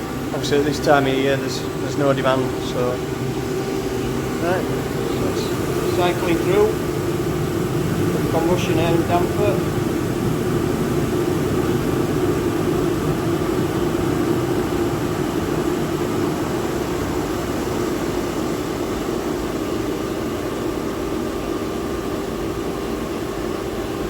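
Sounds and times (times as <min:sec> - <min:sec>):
burner air fan humming: 0:00.0 - 0:24.0.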